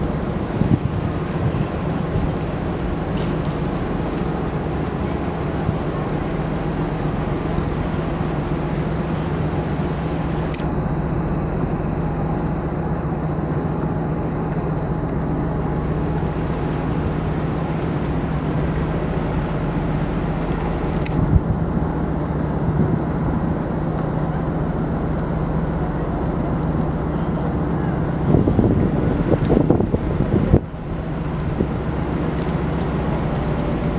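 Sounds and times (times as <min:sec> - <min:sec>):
ferry diesel engines droning: 0:00.0 - 0:33.9.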